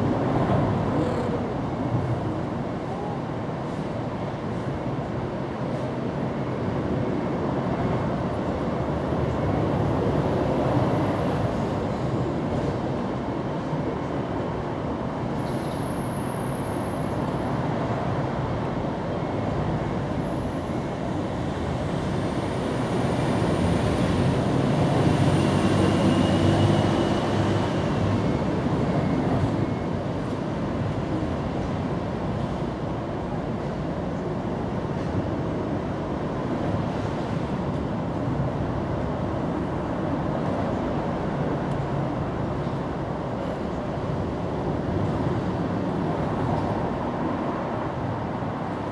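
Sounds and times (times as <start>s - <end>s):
traffic rumble: 0.0s - 48.9s.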